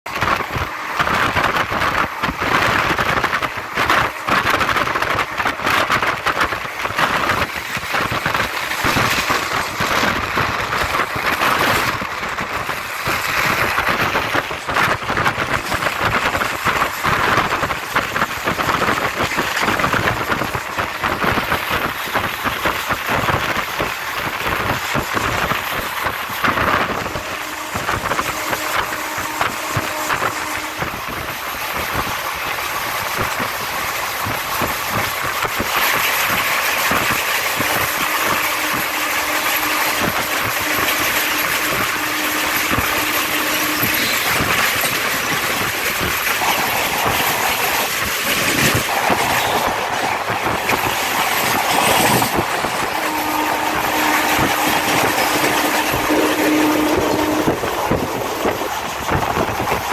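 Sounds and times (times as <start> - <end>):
train wind and wheel rush: 0.0 - 59.9
wheels rattling on rails: 0.0 - 59.9.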